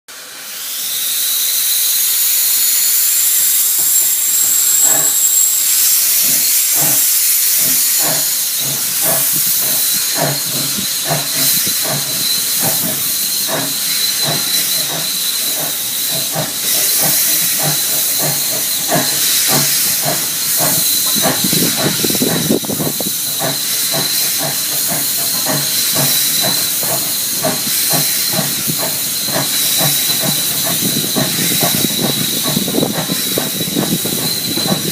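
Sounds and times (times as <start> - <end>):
steam locomotive chuffing: 0.1 - 34.9.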